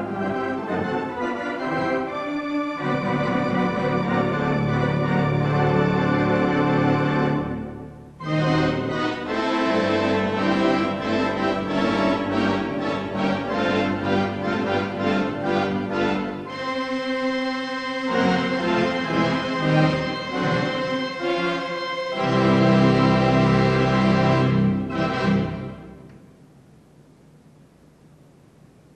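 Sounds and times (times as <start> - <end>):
theatre pipe organ playing: 0.0 - 26.1.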